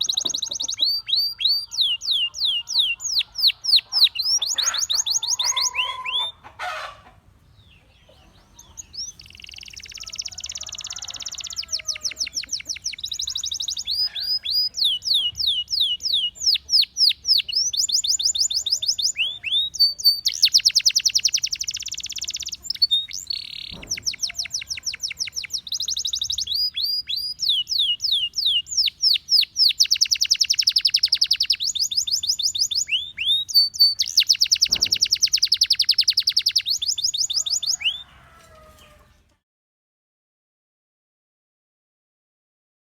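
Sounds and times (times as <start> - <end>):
canary singing trills: 0.0 - 38.2.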